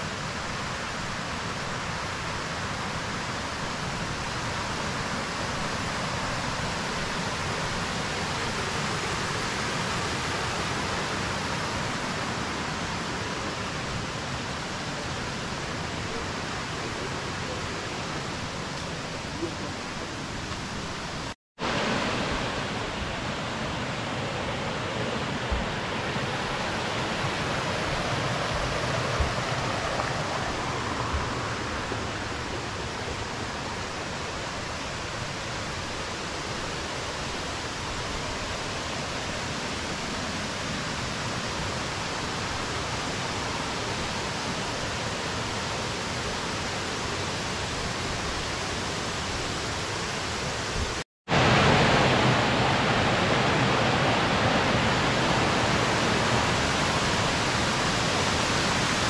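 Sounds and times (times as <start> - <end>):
water rushing over cascades: 0.0 - 59.0.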